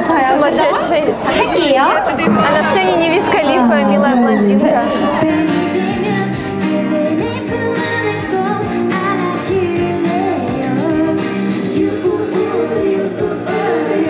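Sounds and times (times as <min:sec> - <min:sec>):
backing music: 0:02.2 - 0:14.0
woman singing pop song: 0:02.5 - 0:14.0.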